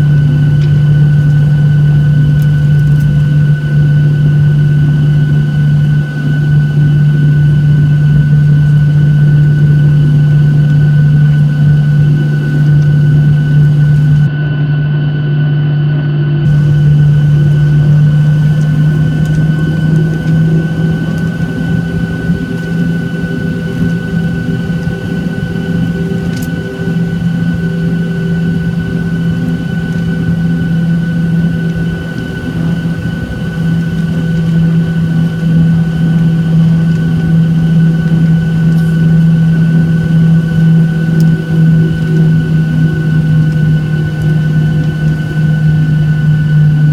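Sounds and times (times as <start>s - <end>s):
jet engine drone in cabin: 0.0s - 46.9s
thin steady whine: 0.0s - 46.9s.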